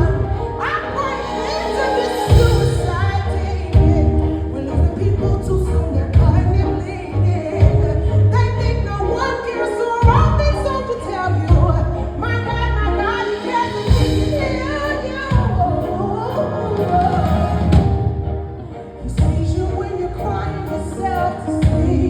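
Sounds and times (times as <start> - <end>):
bass line: 0.0 - 22.0.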